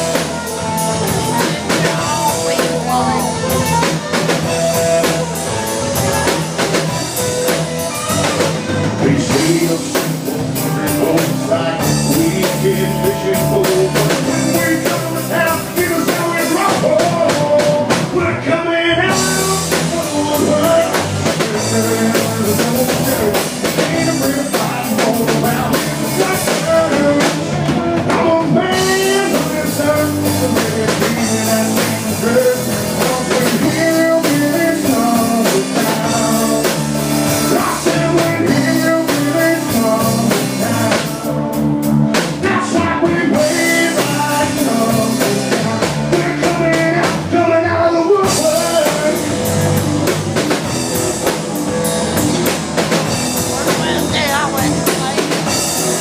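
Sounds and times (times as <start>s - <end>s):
rock band music: 0.0s - 56.0s.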